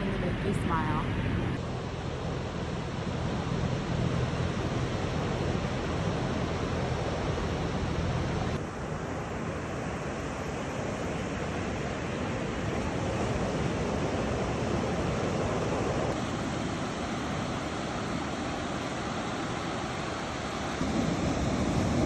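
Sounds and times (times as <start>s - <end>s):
ocean surf on a beach: 1.6s - 22.0s.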